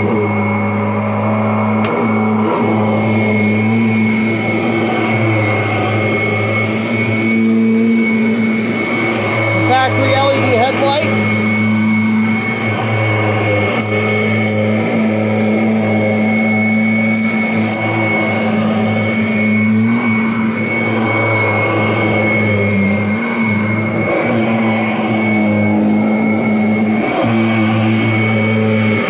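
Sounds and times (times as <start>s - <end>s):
vacuum cleaner running on carpet: 0.0s - 29.0s.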